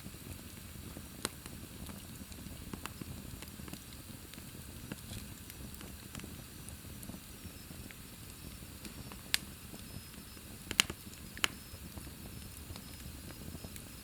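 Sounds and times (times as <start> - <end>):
sharp fire pops: 0.0 - 14.0
wood fire crackling: 0.0 - 14.0.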